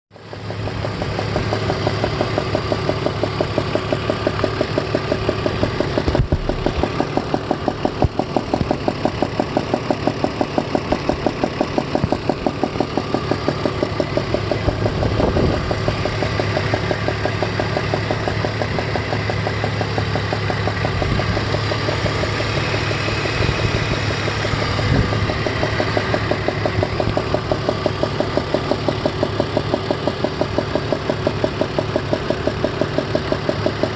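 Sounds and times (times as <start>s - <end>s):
car engine running: 0.1s - 33.9s.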